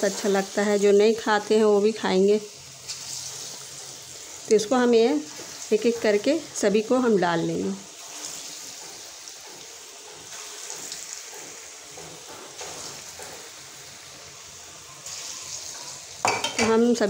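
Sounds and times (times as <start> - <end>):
batter frying in hot oil: 0.0 - 17.0.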